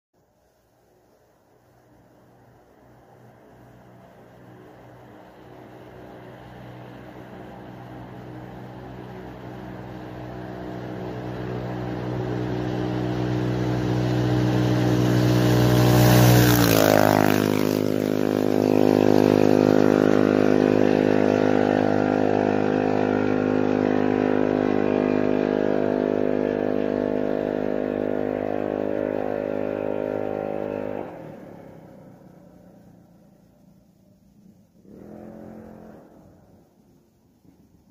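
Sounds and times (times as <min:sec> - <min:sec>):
go-kart engine passing by: 0:01.7 - 0:37.5.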